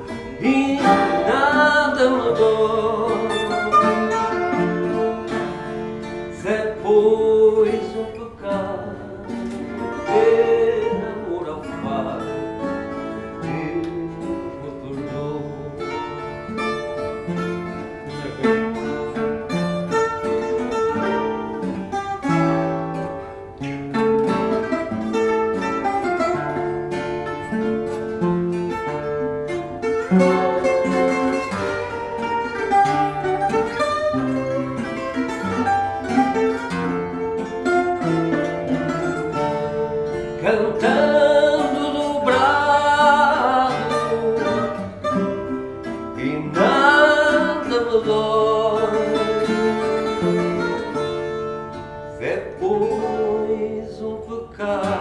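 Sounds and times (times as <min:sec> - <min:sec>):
plucked string ensemble: 0:00.0 - 0:55.0.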